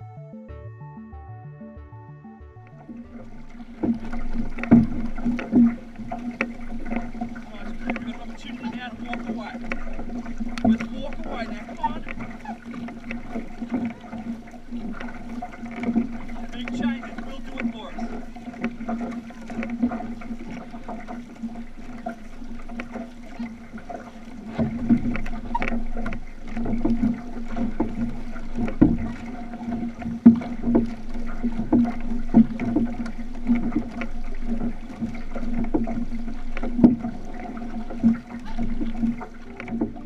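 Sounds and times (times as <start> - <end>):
paddles striking water: 1.7 - 40.0
rushing water: 2.6 - 40.0.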